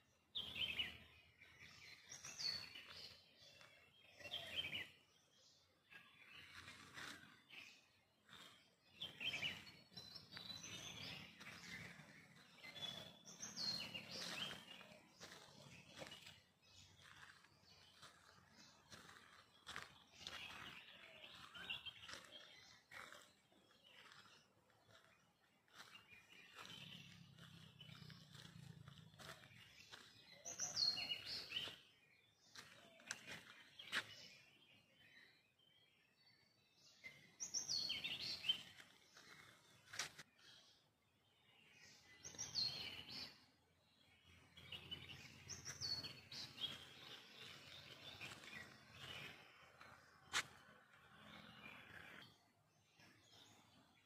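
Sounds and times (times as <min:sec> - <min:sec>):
birds chirping and whistling: 0:00.3 - 0:05.2, 0:05.9 - 0:24.2, 0:25.7 - 0:35.4, 0:37.0 - 0:40.8, 0:41.8 - 0:43.5, 0:44.1 - 0:54.0.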